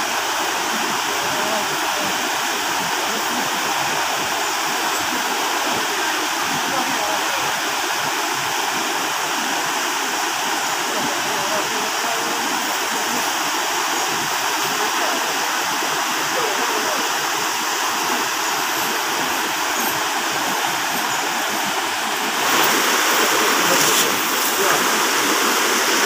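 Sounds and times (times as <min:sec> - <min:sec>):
river rapids rushing over boulders: 0:00.0 - 0:26.0.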